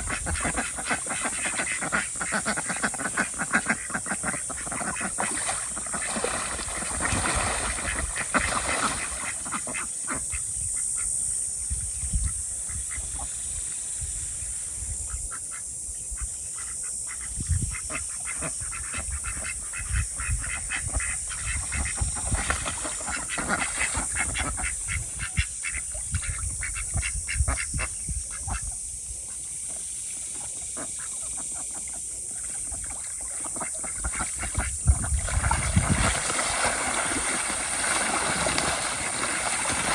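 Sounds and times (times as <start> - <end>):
ducks quacking: 0.0 - 11.1, 16.2 - 28.7, 29.7 - 39.9.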